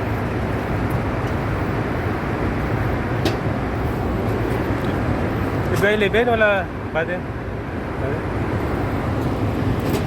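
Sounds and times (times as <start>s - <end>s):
low mechanical rumble with hiss: 0.0s - 10.0s.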